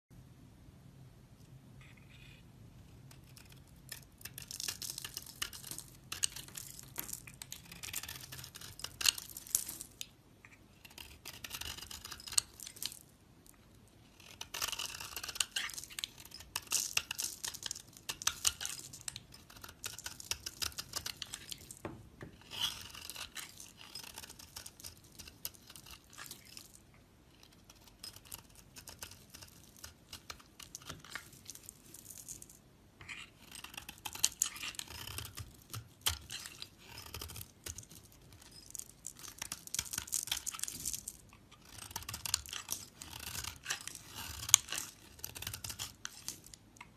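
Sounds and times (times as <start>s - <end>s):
blade scraping soap: 1.8s - 13.0s, 14.0s - 26.6s, 27.4s - 31.6s, 33.0s - 46.9s.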